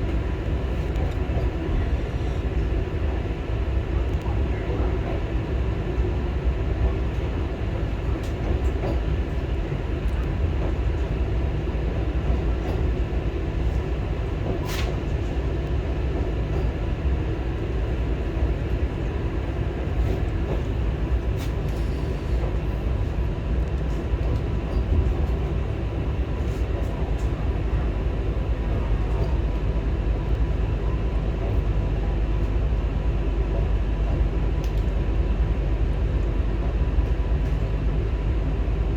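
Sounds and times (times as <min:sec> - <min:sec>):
train wheels rumbling on track: 0:00.0 - 0:38.9.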